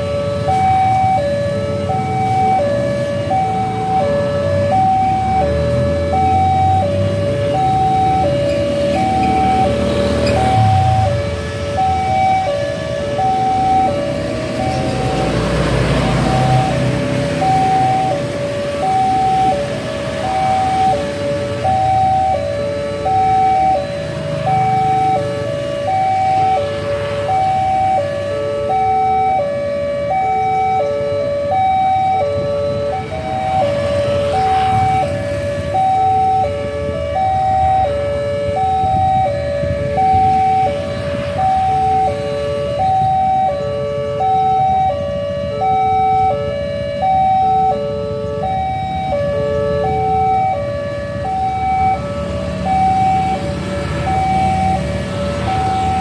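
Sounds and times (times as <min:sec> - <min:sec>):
idling traffic rumble: 0:00.0 - 0:56.0.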